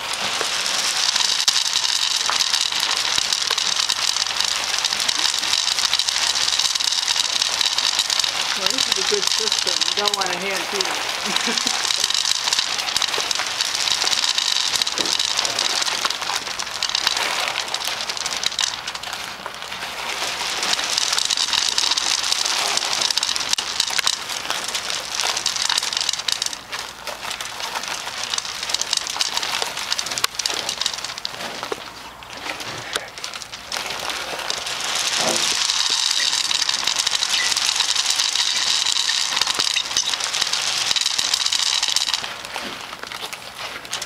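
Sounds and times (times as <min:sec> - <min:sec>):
bison crunching feed pellets: 0:00.0 - 0:44.0.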